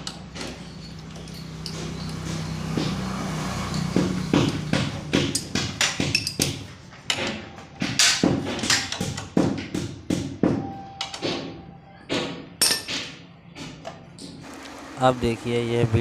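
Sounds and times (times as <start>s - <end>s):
metal tools knocking and tapping: 0.0s - 14.4s.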